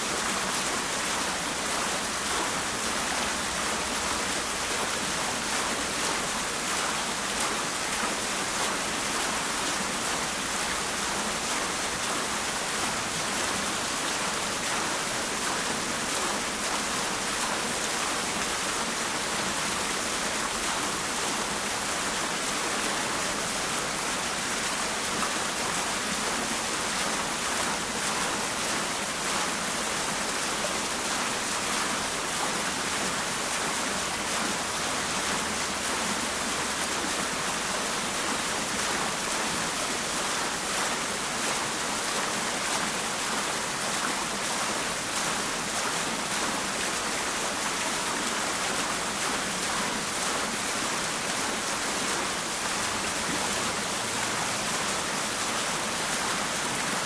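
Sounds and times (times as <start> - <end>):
fountain water pouring: 0.0 - 57.0.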